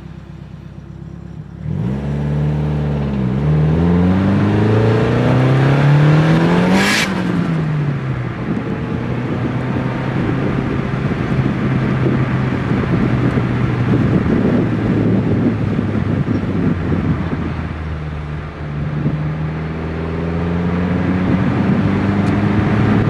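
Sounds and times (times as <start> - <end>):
car engine accelerating: 0.0 - 23.0
wind and road noise: 0.0 - 23.0.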